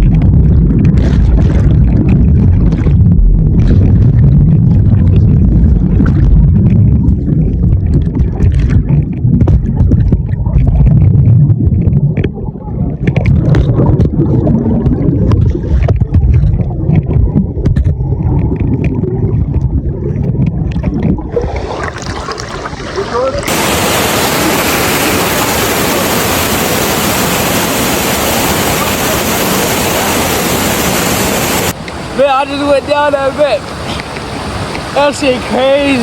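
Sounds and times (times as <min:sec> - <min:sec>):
muffled rushing water: 0:00.0 - 0:36.0.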